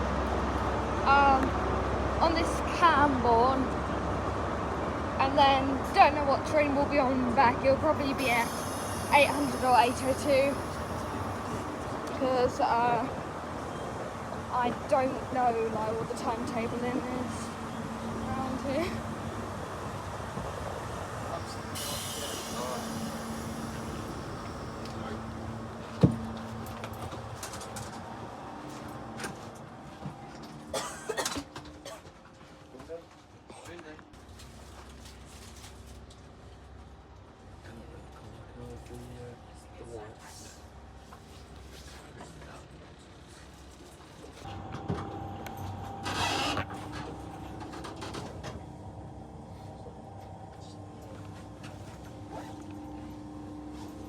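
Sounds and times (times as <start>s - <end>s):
train low hum: 0.0s - 54.0s.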